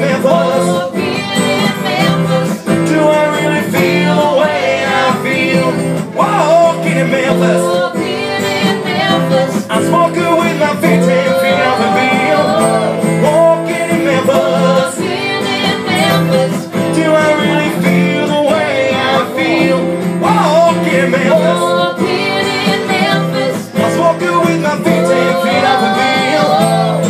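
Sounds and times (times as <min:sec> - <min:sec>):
acoustic guitar: 0:00.0 - 0:27.0
man and woman singing: 0:00.0 - 0:27.0.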